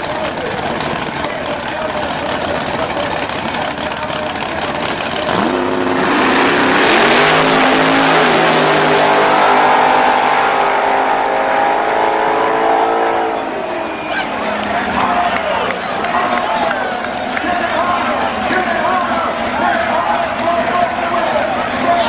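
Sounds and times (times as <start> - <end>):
drag race car engines revving: 0.0 - 22.0.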